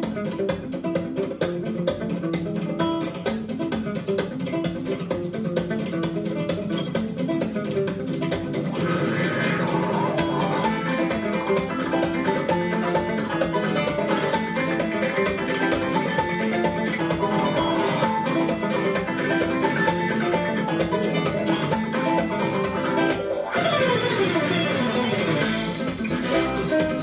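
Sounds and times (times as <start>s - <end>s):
plucked string music: 0.0s - 27.0s.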